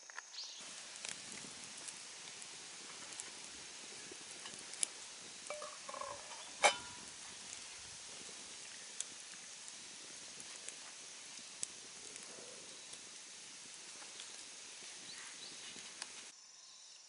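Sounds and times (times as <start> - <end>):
campfire crackling and popping: 0.4 - 16.3.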